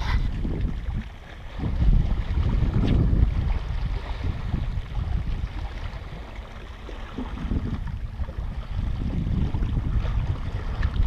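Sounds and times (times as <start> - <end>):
faint open water: 0.0 - 11.0
wind buffeting microphone: 0.0 - 11.0.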